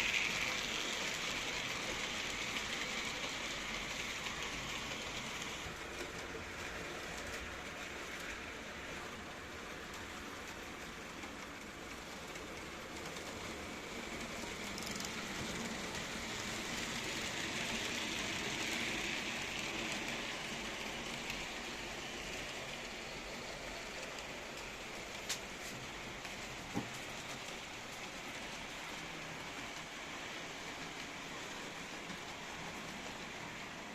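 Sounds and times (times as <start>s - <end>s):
model train rolling hiss: 0.0s - 33.9s.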